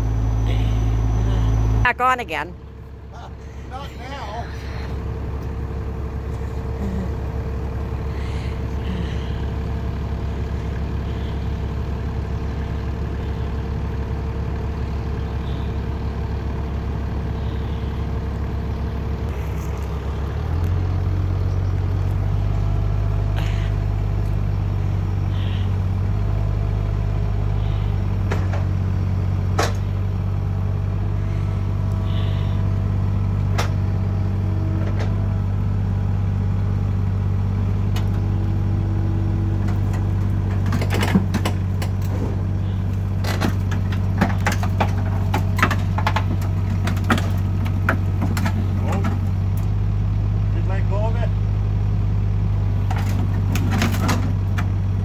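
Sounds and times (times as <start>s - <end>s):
digger diesel engine running: 0.0s - 55.0s.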